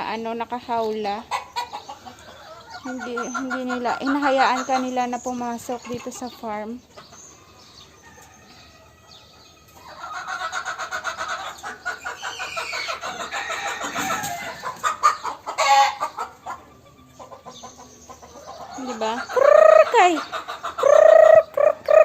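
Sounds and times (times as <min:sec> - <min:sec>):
chickens clucking and calling: 0:00.0 - 0:22.0.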